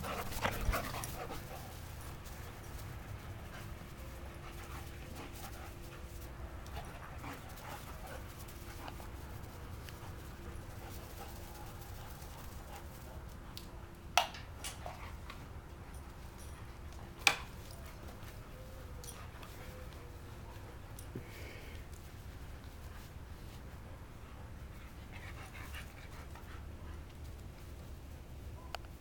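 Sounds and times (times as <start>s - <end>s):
dogs panting: 0.0s - 27.6s.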